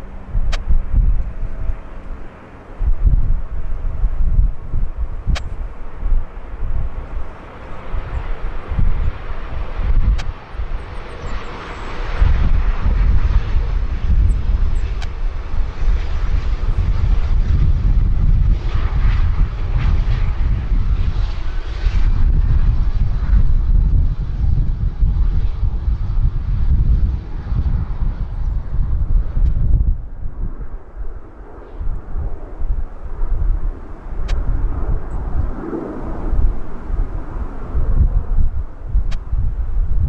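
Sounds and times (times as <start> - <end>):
jet engines rushing drone: 0.0 - 40.0
wind buffeting microphone: 0.0 - 40.0.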